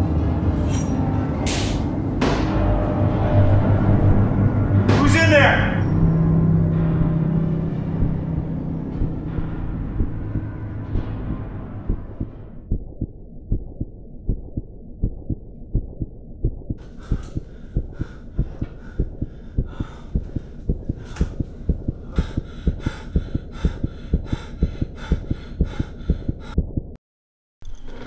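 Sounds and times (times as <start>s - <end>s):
low heartbeat-like thumps: 2.2s - 27.0s.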